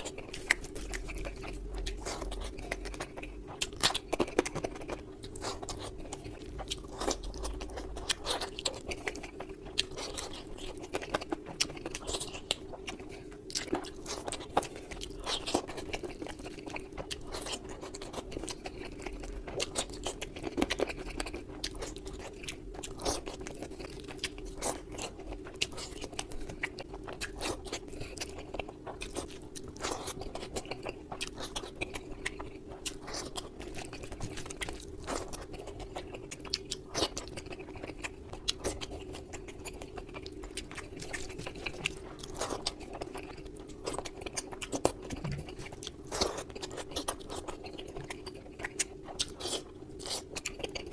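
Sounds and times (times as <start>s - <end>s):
chewing and biting clicks: 0.0s - 50.9s
steady low hum: 0.0s - 50.9s.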